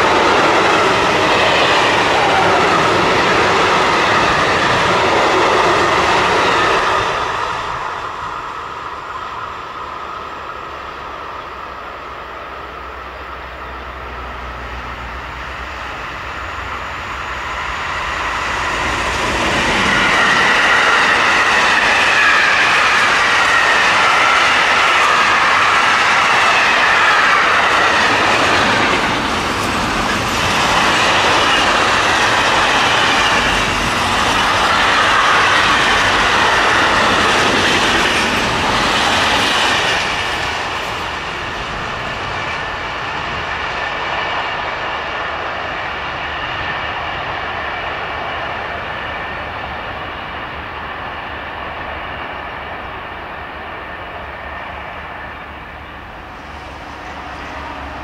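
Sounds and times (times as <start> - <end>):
train passing with high whine: 0.0 - 58.0.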